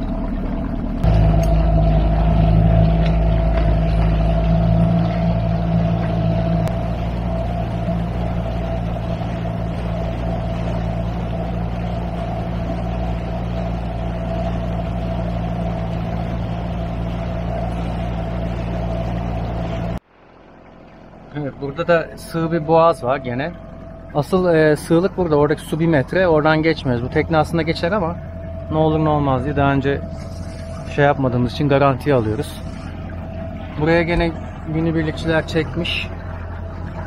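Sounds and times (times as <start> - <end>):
outboard engine droning: 0.0 - 37.0.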